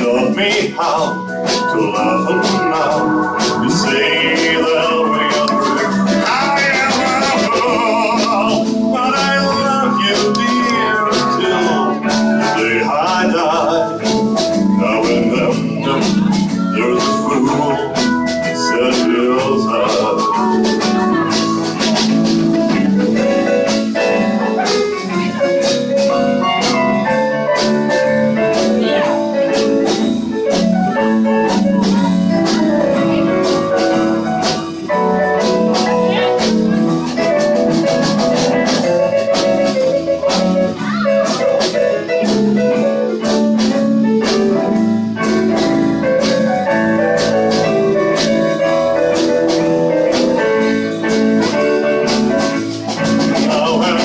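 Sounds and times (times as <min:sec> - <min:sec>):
drum kit beat: 0:00.0 - 0:54.0
live rock band playing: 0:00.0 - 0:54.0.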